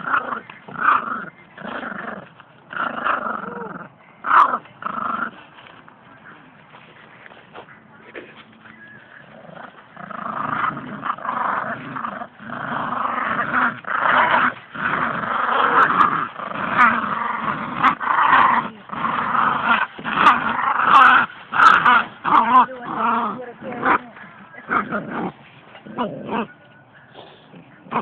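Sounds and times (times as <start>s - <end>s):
puppies play-growling: 0.0s - 6.0s, 6.7s - 26.6s, 27.2s - 28.0s.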